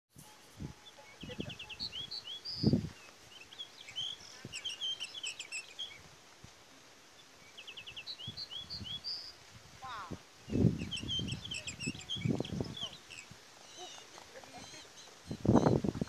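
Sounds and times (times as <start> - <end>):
bird song trills and whistles: 0.6 - 6.0, 7.4 - 9.4, 10.5 - 16.0.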